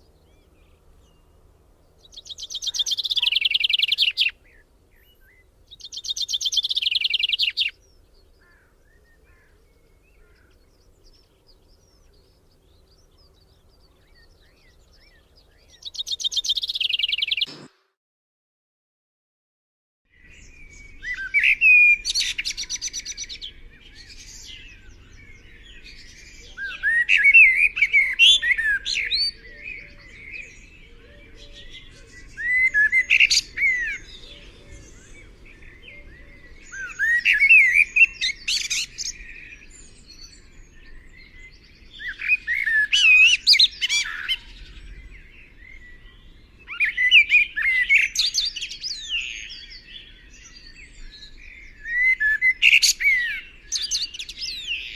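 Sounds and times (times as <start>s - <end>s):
songbird singing: 0.0s - 17.7s, 20.1s - 54.9s.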